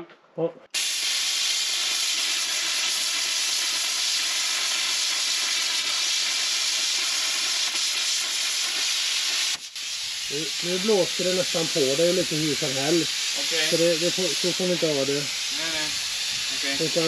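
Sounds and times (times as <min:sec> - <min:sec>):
plasma cutter hissing: 0:00.8 - 0:17.0.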